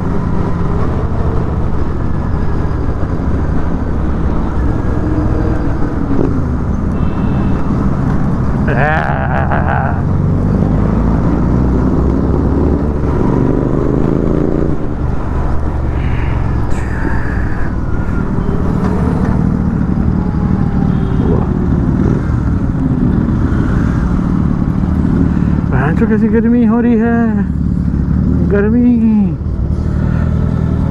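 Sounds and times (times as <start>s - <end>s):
heavy wind and road noise: 0.0s - 30.9s.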